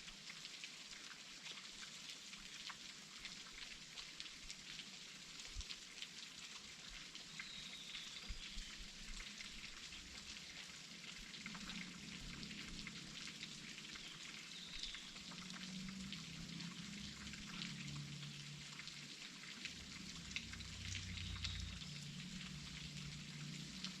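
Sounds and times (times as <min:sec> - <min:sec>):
water splashes and drips: 0:00.0 - 0:24.0.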